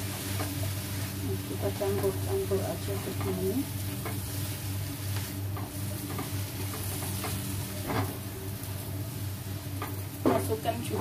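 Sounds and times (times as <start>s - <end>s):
noodles sizzling in a wok: 0.0s - 11.0s
steady low hum: 0.0s - 11.0s.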